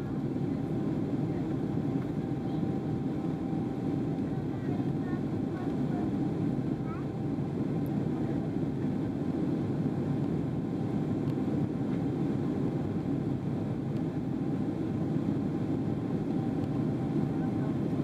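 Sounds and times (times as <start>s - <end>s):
airplane cabin noise: 0.0s - 18.0s.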